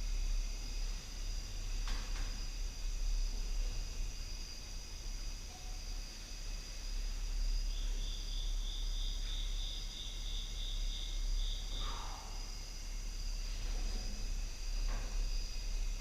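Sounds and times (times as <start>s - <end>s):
insects trilling: 0.0s - 16.0s
loud pulsing insect trill: 0.0s - 16.0s
low steady hum: 0.0s - 16.0s.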